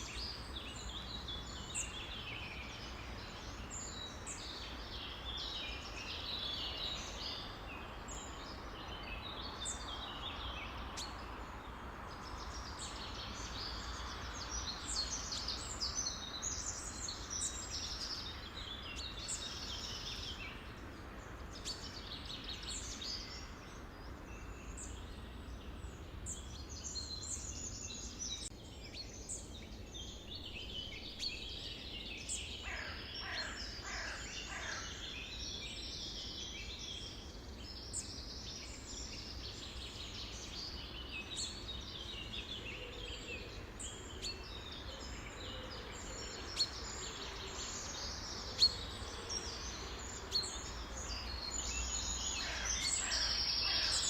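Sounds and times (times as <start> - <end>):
low background noise: 0.0 - 54.0
songbirds chirping and trilling: 0.0 - 54.0.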